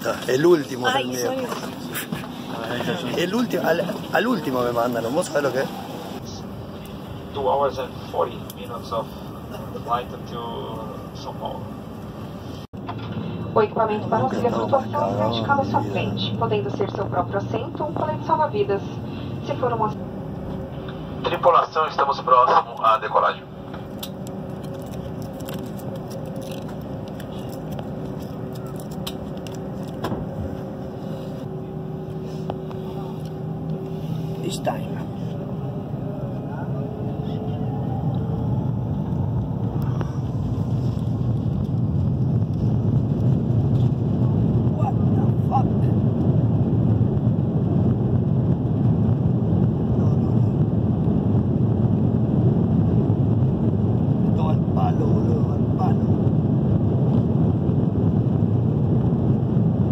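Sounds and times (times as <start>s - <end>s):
airliner engine hum and rush: 0.0s - 59.9s.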